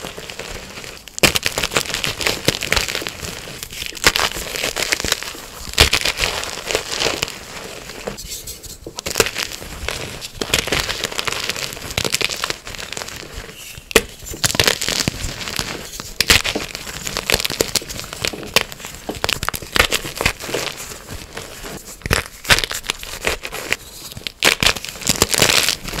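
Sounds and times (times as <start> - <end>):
chalk being crushed: 0.0 - 26.0.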